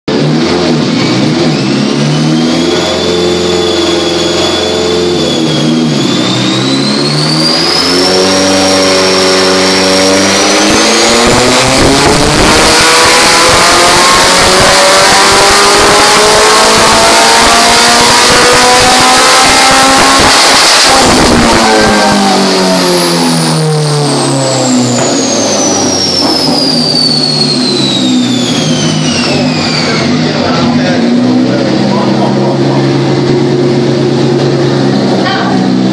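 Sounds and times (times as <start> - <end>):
high whine: 0.1 - 35.9
race car engine revving: 0.1 - 35.9.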